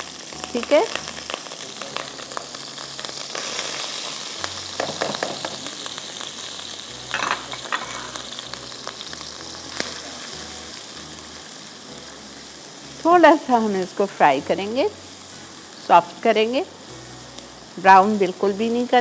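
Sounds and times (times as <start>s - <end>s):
onion sizzling in a pan: 0.0s - 19.0s.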